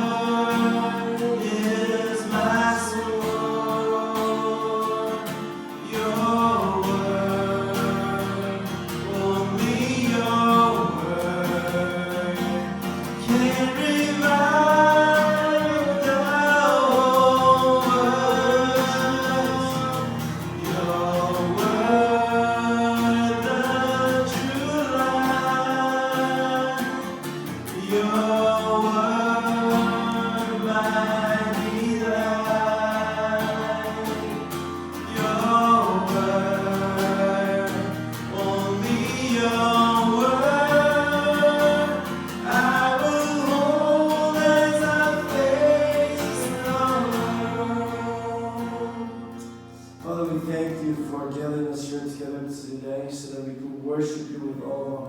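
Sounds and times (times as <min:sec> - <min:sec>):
voices singing worship song: 0:00.0 - 0:55.0.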